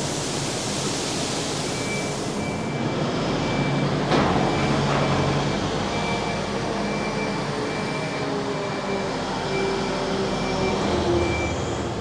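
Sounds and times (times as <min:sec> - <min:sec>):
faint reversing beep: 0:01.6 - 0:11.7.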